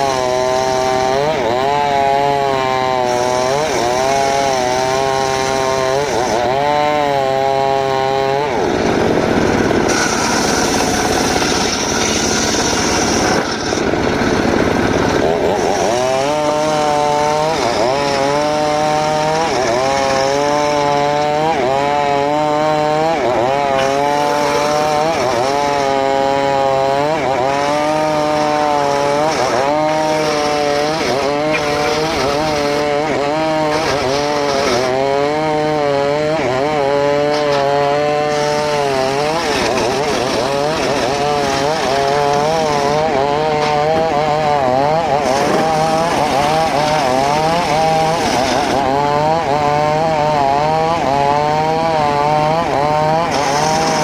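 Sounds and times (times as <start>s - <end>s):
saw rasp of cutting: 0.0s - 54.0s.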